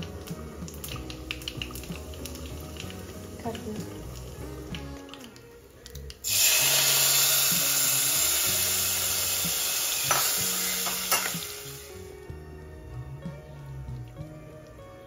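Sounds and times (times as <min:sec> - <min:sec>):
hot oil sizzling: 0:00.0 - 0:12.3.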